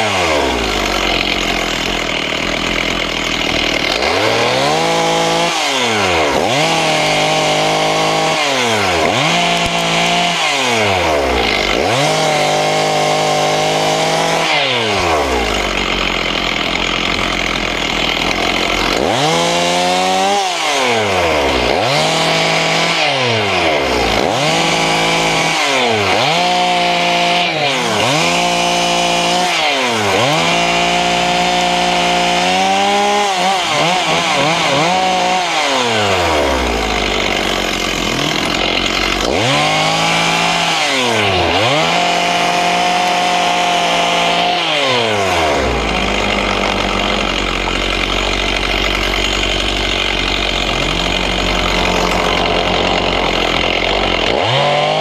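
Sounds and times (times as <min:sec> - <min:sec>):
chainsaw revving and cutting: 0:00.0 - 0:55.0.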